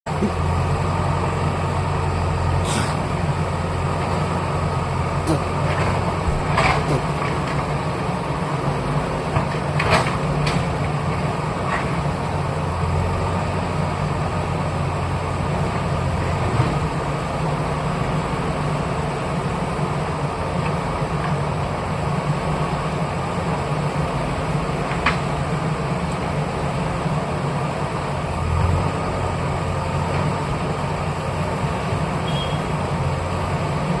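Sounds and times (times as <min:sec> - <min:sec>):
bulldozer diesel engine running: 0:00.1 - 0:34.0.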